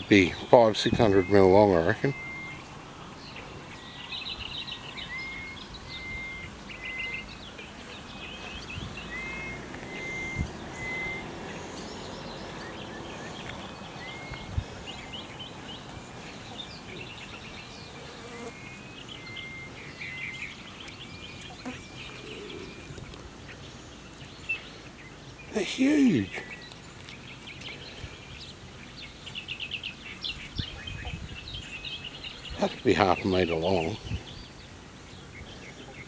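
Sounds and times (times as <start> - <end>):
background hiss: 0.0 - 36.0
small birds calling: 0.0 - 36.0.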